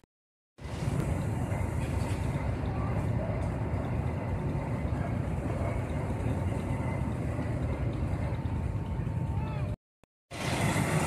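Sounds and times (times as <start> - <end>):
motorcycle engines rumbling: 0.7 - 9.7.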